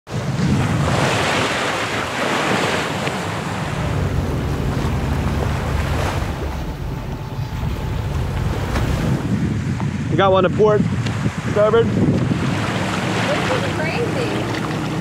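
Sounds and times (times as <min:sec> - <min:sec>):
water splashing past boat hull: 0:00.1 - 0:15.0
wind buffeting microphone: 0:00.1 - 0:15.0.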